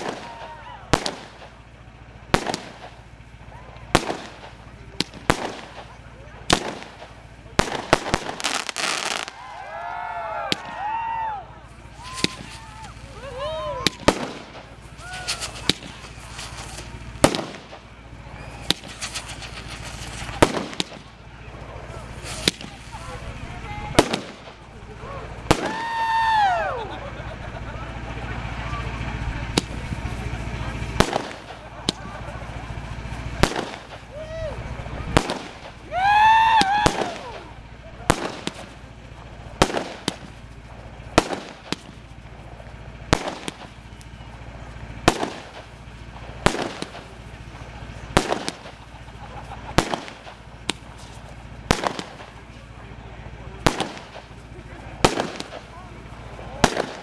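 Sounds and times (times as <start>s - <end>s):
firework shells bursting: 0.0s - 9.7s, 10.4s - 26.5s, 27.3s - 57.0s
firework crackling: 0.0s - 57.0s.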